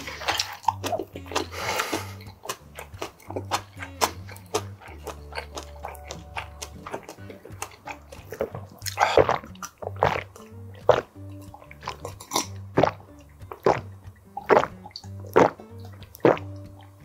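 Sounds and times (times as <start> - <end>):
person gulping water: 0.0 - 16.9
background music: 0.0 - 17.0.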